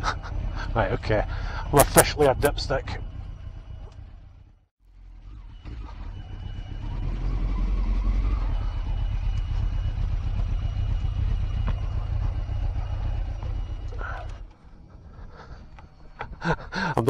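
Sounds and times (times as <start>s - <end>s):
motorcycle engine low rumble: 0.0s - 17.0s.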